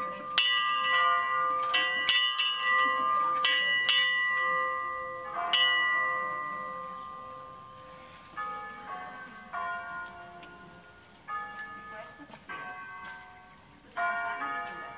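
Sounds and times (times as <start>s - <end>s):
church bell ringing: 0.0s - 14.9s.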